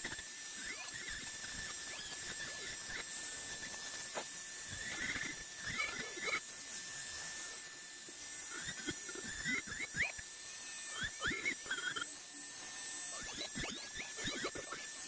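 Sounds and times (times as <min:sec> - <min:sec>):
rotary carving tool whining: 0:00.0 - 0:15.0.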